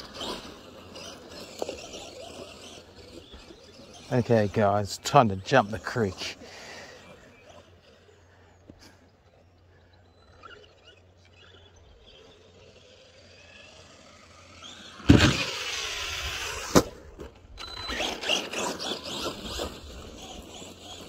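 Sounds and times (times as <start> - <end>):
toy truck motor whine: 0.0 - 21.0.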